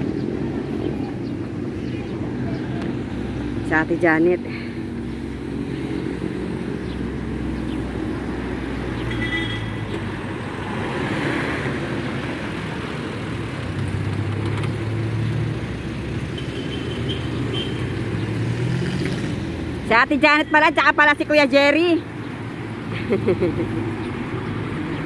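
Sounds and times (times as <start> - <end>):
traffic engines humming: 0.0 - 25.0.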